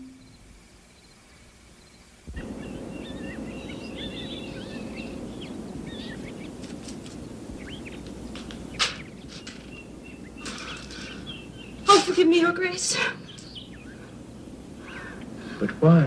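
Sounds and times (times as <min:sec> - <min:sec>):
birds chirping and twittering: 0:00.0 - 0:16.0
outdoor background hiss: 0:00.0 - 0:16.0.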